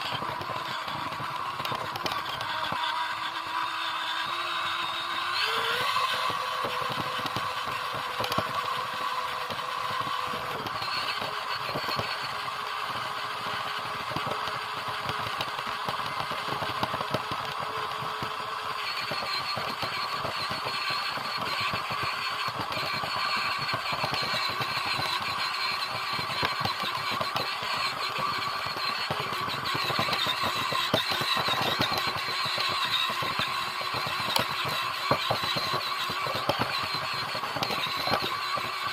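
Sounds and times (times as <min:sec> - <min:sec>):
radio-controlled car motor whine: 0:00.0 - 0:38.9
rattling drivetrain and wheels: 0:00.0 - 0:38.9.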